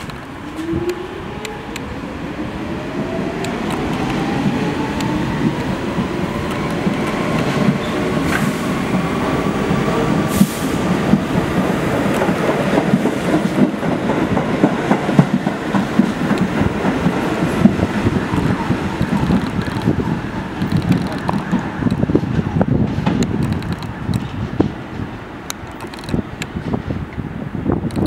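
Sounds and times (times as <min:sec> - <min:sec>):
train rumble: 0:00.0 - 0:28.0
wheels clacking over rail joints: 0:03.1 - 0:26.8.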